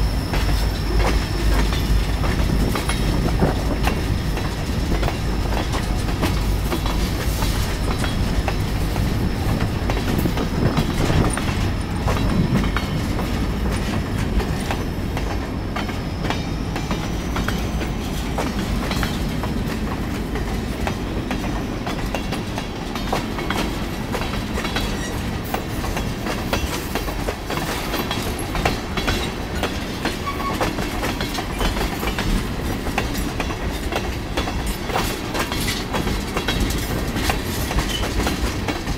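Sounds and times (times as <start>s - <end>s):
train wheels rumbling on rail: 0.0s - 38.9s
wheels clacking over rail joints: 0.2s - 38.9s.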